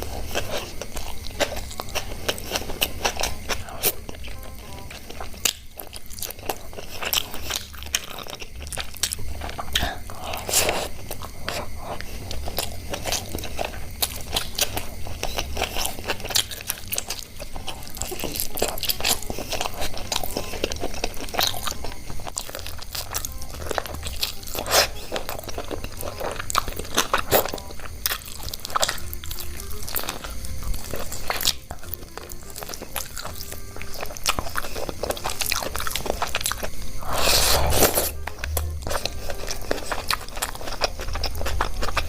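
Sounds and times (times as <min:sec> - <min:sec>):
crunchy bites and chewing: 0:00.0 - 0:42.0.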